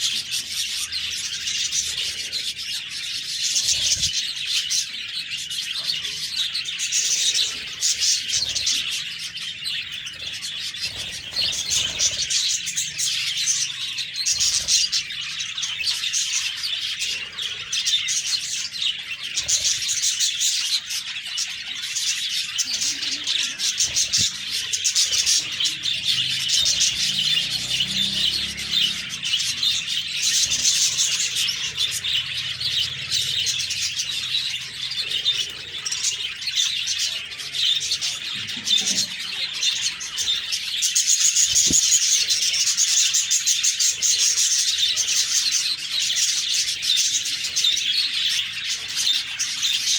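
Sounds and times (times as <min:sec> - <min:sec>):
budgerigars chattering: 0:00.0 - 0:49.9.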